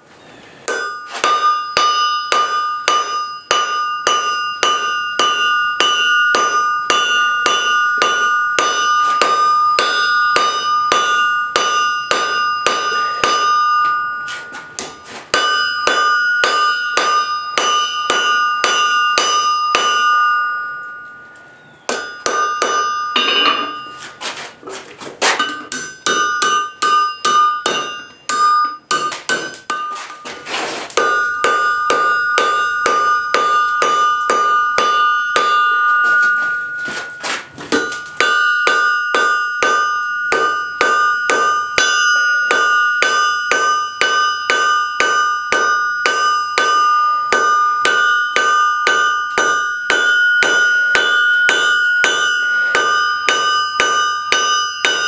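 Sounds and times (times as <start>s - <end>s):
anvil ringing: 0.6s - 24.3s, 25.2s - 55.0s
hammer striking steel on anvil: 0.6s - 24.4s, 25.2s - 55.0s.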